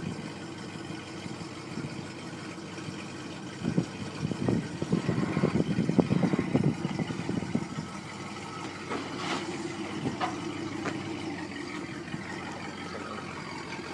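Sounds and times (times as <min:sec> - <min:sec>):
car engine idling unevenly: 0:00.0 - 0:13.9.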